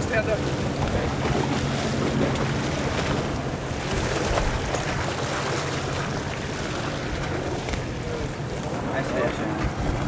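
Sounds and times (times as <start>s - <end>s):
boat engine running: 0.0s - 10.0s
water splashing along hull: 0.0s - 10.0s
wind buffeting microphone: 0.0s - 10.0s.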